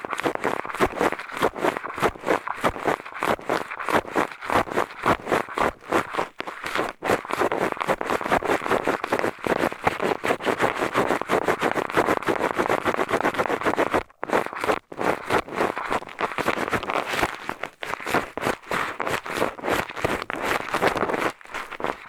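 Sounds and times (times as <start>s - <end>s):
eyeglasses scratching in ear: 0.1s - 22.0s.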